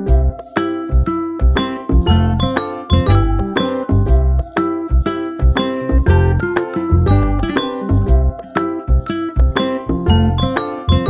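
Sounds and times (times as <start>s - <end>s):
instrument notes over bass beat: 0.0s - 11.0s.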